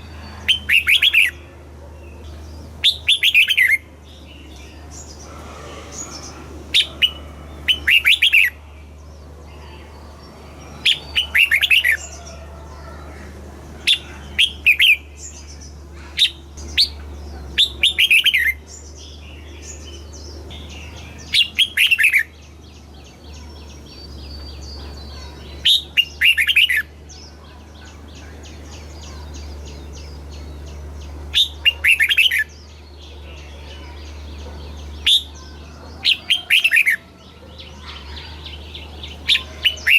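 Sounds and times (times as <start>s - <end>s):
bird warbling song: 0.0s - 39.9s
steady low hum: 0.0s - 39.9s.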